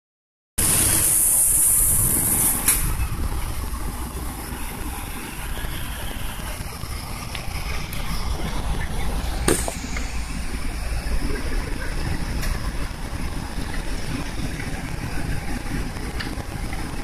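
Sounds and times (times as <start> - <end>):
high hiss: 0.6 - 15.8
jet engines at high power: 0.6 - 17.0
wheels rumbling on runway: 0.6 - 17.0.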